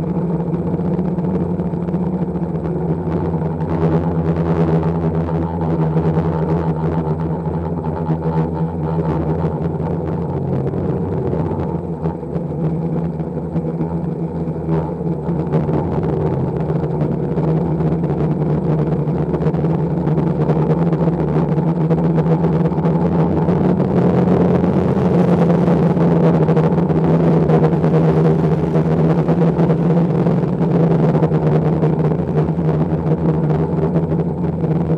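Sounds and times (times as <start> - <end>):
drone propellers humming: 0.0 - 34.9.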